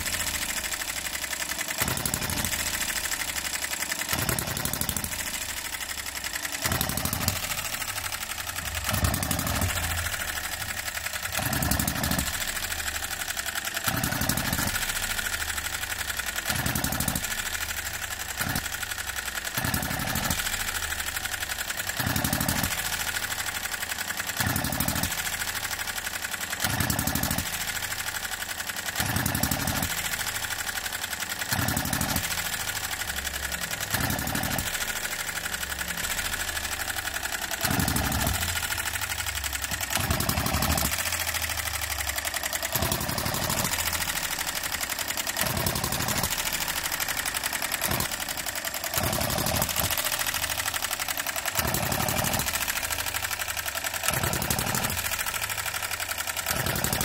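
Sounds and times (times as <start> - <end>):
engine clatter: 0.0 - 57.0.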